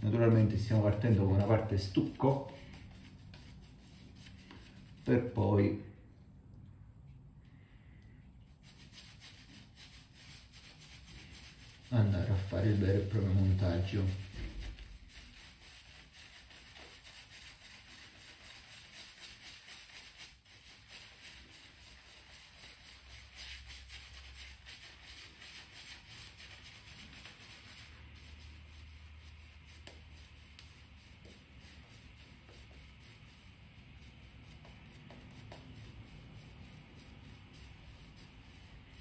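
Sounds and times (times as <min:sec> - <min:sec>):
shaving brush rubbing lather: 0:00.0 - 0:05.5, 0:08.5 - 0:39.0.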